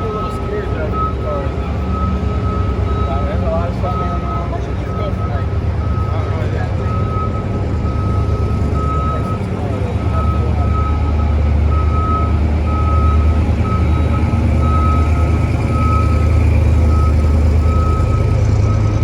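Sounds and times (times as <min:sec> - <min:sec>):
engine rumbling: 0:00.0 - 0:19.0
reversing alarm beeping: 0:00.0 - 0:19.0.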